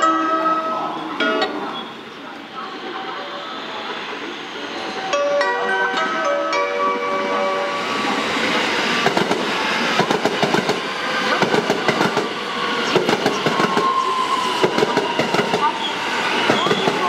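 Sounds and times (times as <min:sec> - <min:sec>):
steady train whine: 0:00.0 - 0:17.0.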